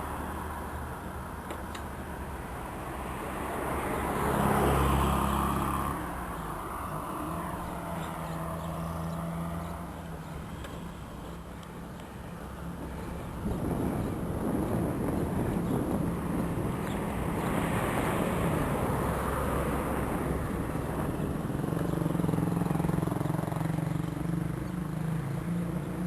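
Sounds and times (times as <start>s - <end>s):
low engine hum: 0.0s - 26.0s
car passing: 2.2s - 25.8s.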